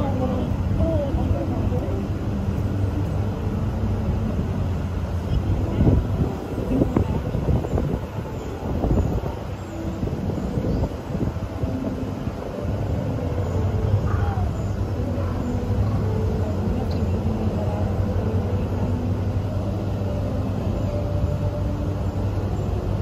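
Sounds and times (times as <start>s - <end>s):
low rumble of background noise: 0.0s - 23.0s.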